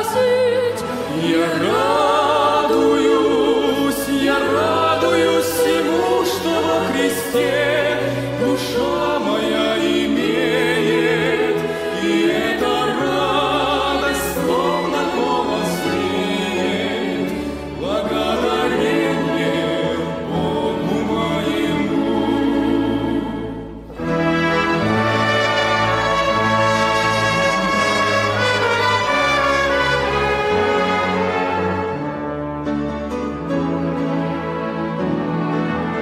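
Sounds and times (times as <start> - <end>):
choir singing held chords: 0.0 - 36.0
orchestral accompaniment: 0.0 - 36.0.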